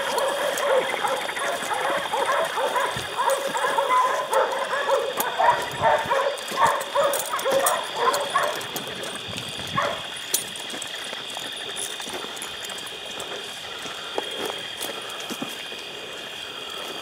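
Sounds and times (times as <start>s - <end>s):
dogs barking and yipping: 0.0s - 16.3s.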